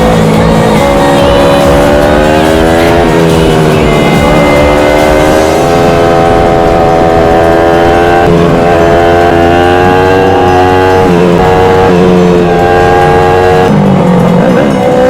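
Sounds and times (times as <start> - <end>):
motorcycle engine shifting gears: 0.0 - 15.0.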